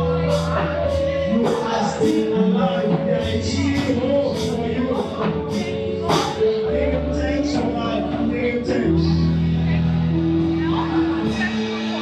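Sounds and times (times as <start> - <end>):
bass: 0.0 - 12.0
keyboard chords: 0.0 - 12.0
person singing: 0.0 - 12.0.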